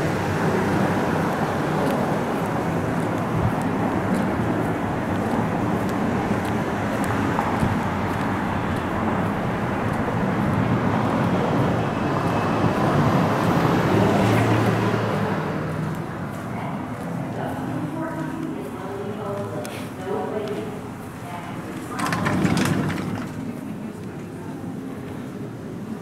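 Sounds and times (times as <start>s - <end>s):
airport machinery: 0.0s - 26.0s
road traffic: 0.0s - 26.0s.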